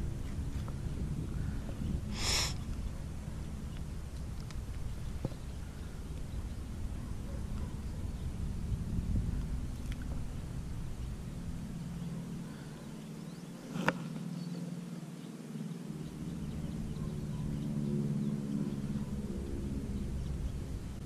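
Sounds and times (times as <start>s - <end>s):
wind rumble on microphone: 0.0s - 12.7s, 15.8s - 21.0s
distant engine hum: 0.0s - 21.0s.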